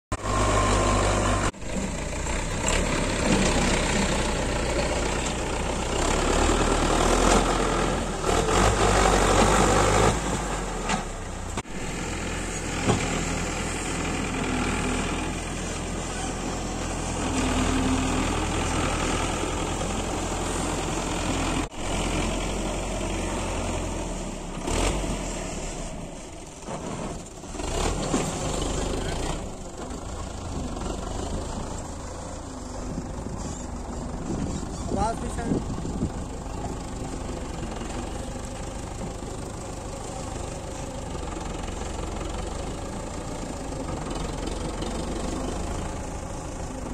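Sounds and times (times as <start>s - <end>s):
tractor diesel engine running: 0.1s - 46.9s.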